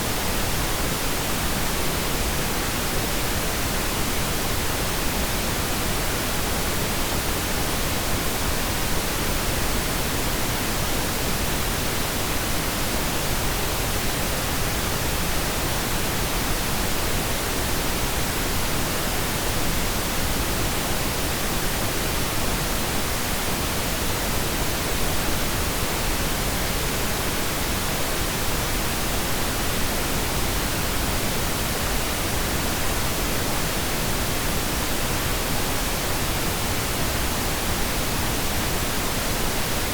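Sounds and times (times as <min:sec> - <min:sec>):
constant pink noise hiss: 0:00.0 - 0:39.9.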